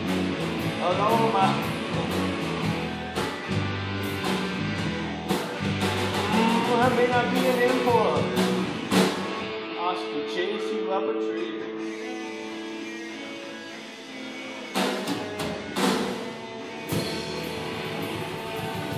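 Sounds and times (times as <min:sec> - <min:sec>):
electric guitar lead bending: 0:00.0 - 0:18.9
guitar chord ringing: 0:00.0 - 0:18.9
live rock band playing blues: 0:00.0 - 0:18.9.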